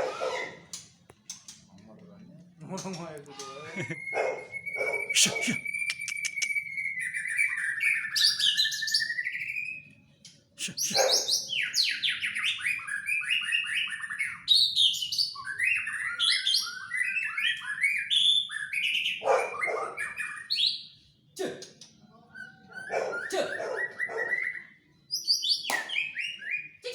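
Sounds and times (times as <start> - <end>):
bird singing whistled phrases: 3.4 - 10.0, 10.6 - 21.0, 22.2 - 26.9.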